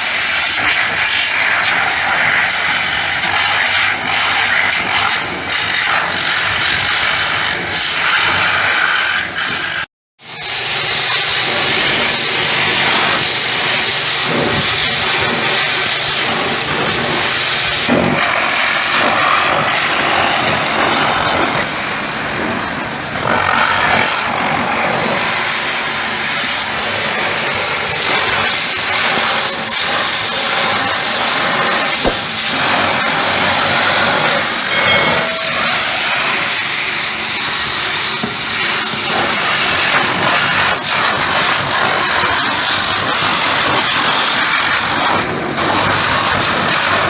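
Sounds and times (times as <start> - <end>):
pressure washer spraying water: 0.0 - 47.0.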